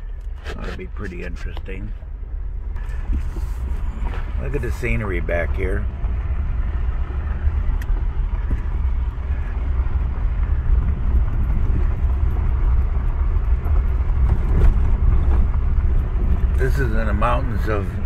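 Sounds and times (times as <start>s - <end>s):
tyres on rough dirt road: 0.0s - 18.0s
vehicle engine rumble: 0.0s - 18.0s.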